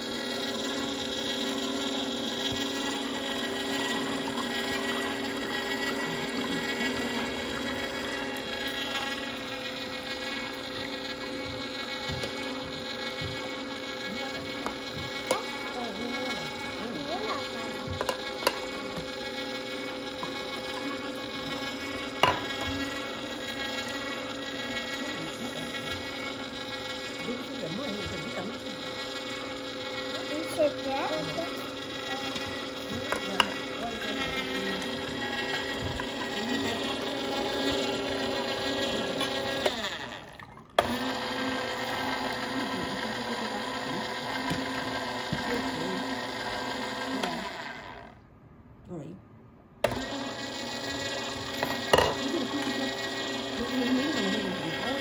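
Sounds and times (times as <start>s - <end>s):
juicer click: 0.0s - 48.1s, 49.8s - 55.0s
juicer motor humming: 0.0s - 48.2s, 49.8s - 55.0s.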